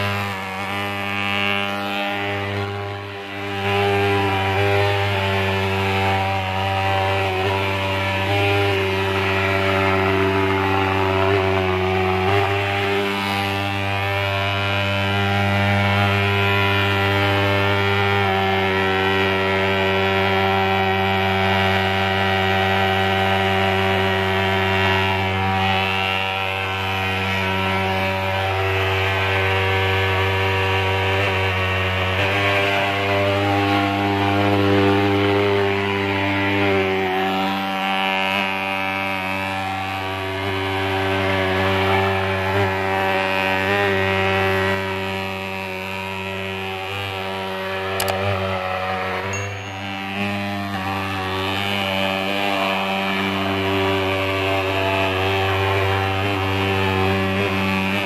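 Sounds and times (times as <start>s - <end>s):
fogger buzzing: 0.0s - 58.0s.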